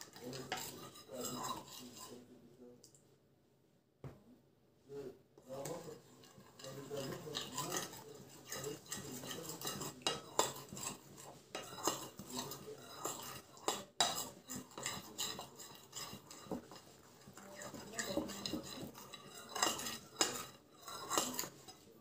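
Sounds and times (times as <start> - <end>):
utensil clinking against bowl: 0.0 - 2.1, 5.6 - 21.8
utensil stirring batter in bowl: 0.0 - 3.0, 5.4 - 22.0.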